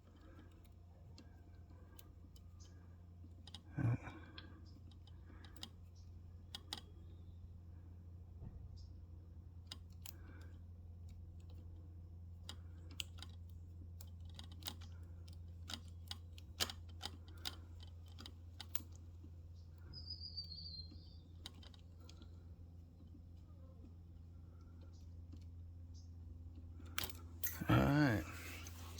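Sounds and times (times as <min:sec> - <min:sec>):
small parts clicking and tapping: 0:00.0 - 0:07.6, 0:08.3 - 0:28.1
steady low hum: 0:00.0 - 0:28.9.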